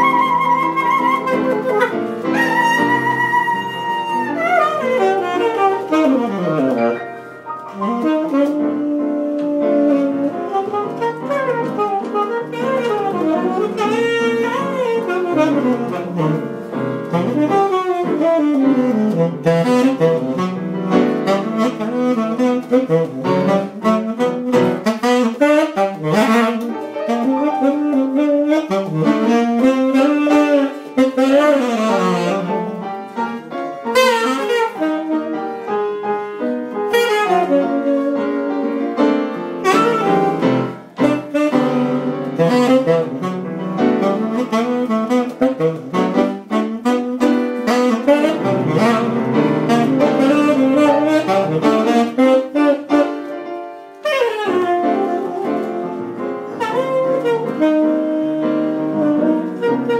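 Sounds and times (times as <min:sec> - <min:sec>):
tenor saxophone jazz solo: 0:00.0 - 0:59.9.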